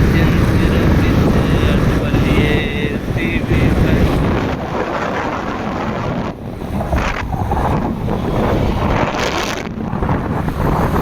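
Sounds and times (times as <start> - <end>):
road and traffic noise: 0.0 - 11.0
wind buffeting microphone: 0.0 - 11.0.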